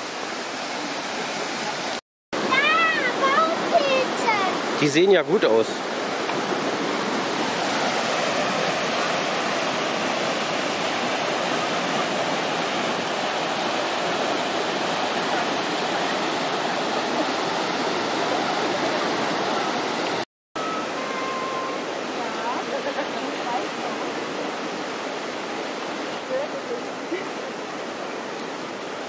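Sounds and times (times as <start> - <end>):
whitewater rapids roaring: 0.0 - 29.0.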